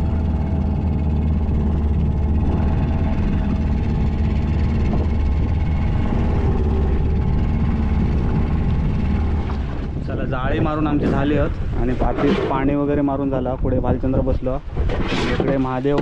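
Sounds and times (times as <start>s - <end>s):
boat engine deep hum: 0.0s - 16.0s.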